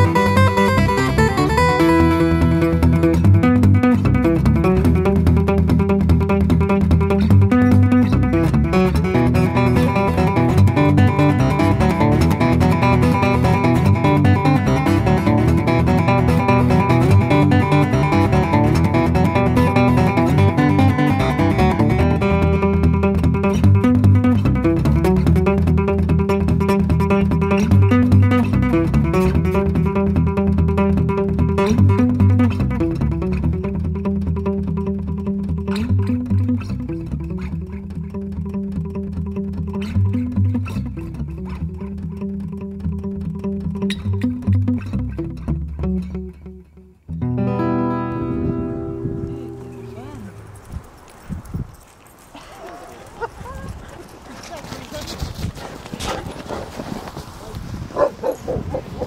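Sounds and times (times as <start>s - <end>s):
fingerstyle acoustic guitar: 0.0s - 51.8s.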